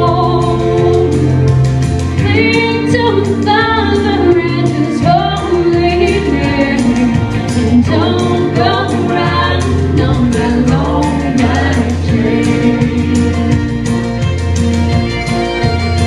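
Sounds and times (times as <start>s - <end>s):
woman singing country song: 0.0s - 13.8s
instrumental accompaniment with beat: 0.0s - 16.0s.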